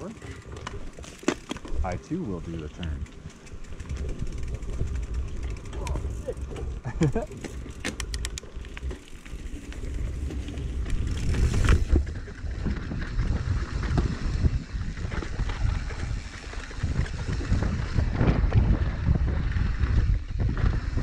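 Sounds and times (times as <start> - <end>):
bike tyre noise on dirt: 0.0 - 21.0
bike knocks and rattles: 0.2 - 2.0, 3.0 - 21.0
wind buffeting microphone: 1.7 - 21.0.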